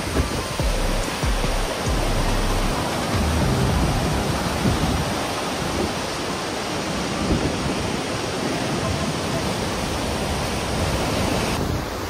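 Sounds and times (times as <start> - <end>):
waterfall crashing onto rocks: 0.0 - 12.0.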